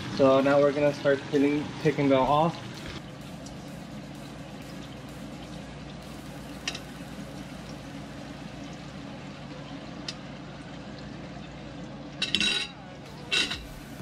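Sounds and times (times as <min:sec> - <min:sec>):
food sizzling in a pan: 0:00.0 - 0:10.7, 0:12.5 - 0:14.0
low hum: 0:02.7 - 0:14.0.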